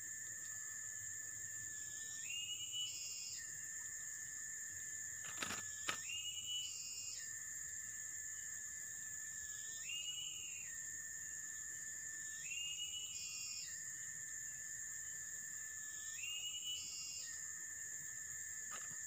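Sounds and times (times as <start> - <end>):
insect chorus high whine: 0.0 - 19.0.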